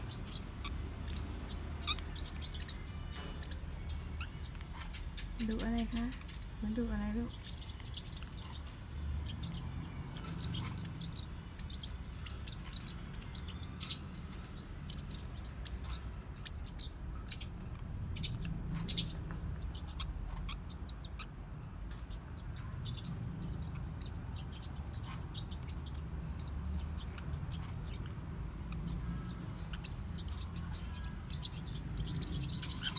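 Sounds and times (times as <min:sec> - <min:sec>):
parrotlets chirping: 0:00.0 - 0:32.9.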